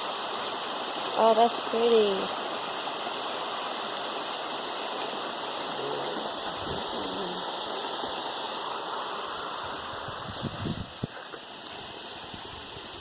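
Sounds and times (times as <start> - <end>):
water flowing over rocks: 0.0 - 13.0.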